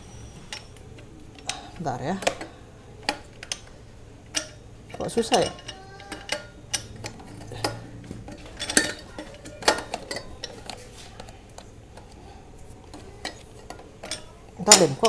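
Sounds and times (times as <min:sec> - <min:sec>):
metallic clinks and knocks: 0:00.0 - 0:12.2, 0:12.8 - 0:15.0.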